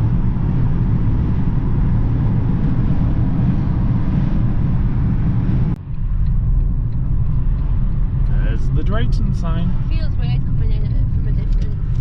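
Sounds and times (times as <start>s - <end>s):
tyres rumbling on road in car: 0.0s - 12.0s.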